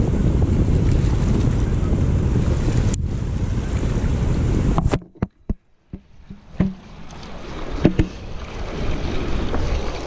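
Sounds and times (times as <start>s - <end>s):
river noise: 0.0s - 10.0s
wind rush on microphone: 0.0s - 10.0s.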